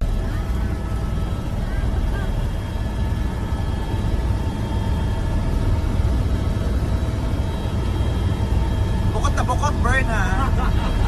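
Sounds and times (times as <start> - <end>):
helicopter rumble and whine: 0.0 - 11.0.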